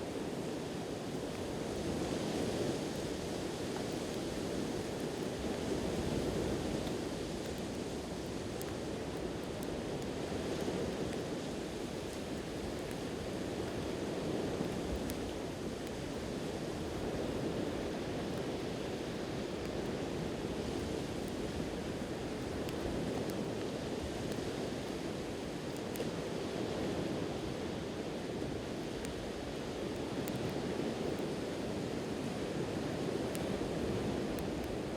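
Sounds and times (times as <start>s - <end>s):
sea waves washing onto shore: 0.0s - 34.9s
campfire crackling: 0.1s - 34.9s.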